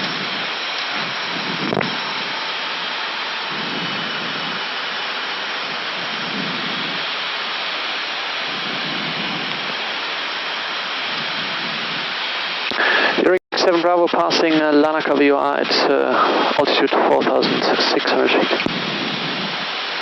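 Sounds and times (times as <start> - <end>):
rushing airflow in cockpit: 0.0 - 20.0.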